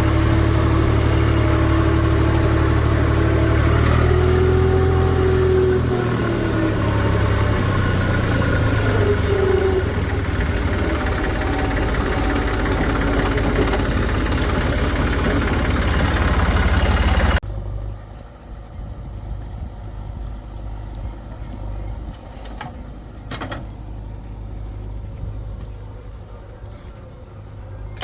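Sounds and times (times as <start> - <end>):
diesel engine running: 0.0 - 28.0
quieter engine sound: 0.0 - 28.0.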